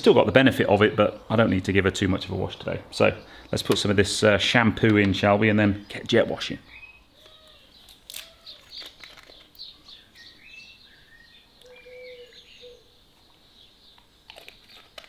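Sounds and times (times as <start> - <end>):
birds chirping and singing: 0.1 - 15.0.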